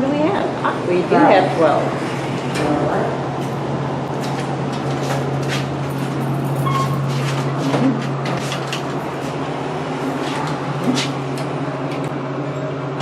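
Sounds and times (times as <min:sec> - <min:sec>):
elevator low hum and rumble: 0:00.0 - 0:13.0.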